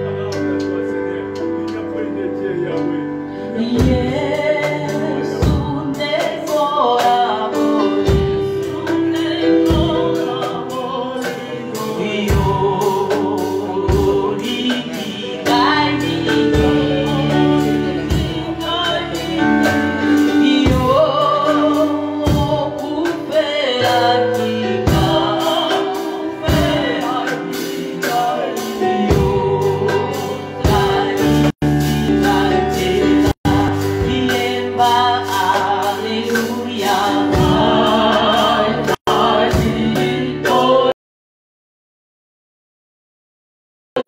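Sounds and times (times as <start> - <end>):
band accompaniment: 0.0 - 40.9
women singing gospel song: 3.6 - 41.0
drum hits: 3.8 - 40.9.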